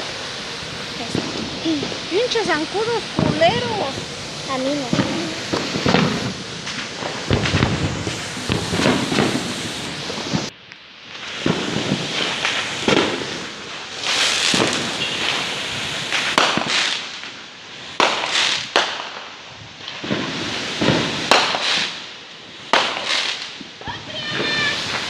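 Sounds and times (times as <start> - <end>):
firecracker bangs: 0.0 - 25.0
fireworks crackling hiss: 0.0 - 25.0.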